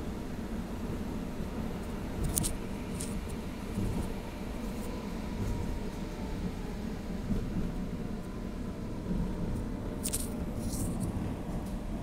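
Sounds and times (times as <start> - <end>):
faint steady whine: 0.0 - 12.0
tram wheels rumbling on rails: 0.0 - 12.0.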